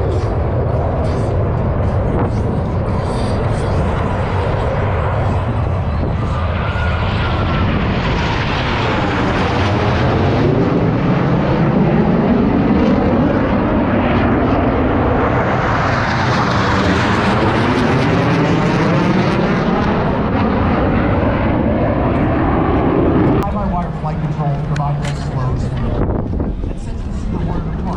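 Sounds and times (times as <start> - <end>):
jet aircraft roar: 0.0 - 27.9.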